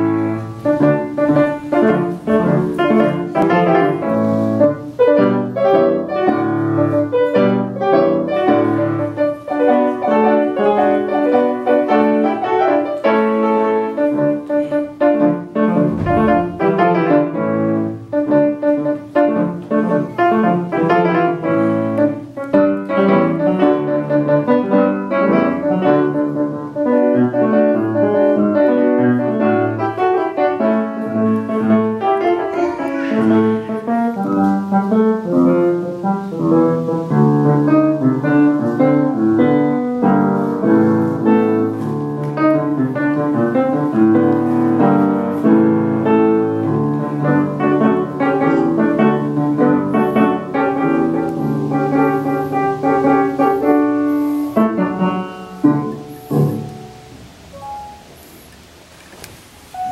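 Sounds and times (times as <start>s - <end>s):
grand piano fast runs: 0.0s - 58.9s.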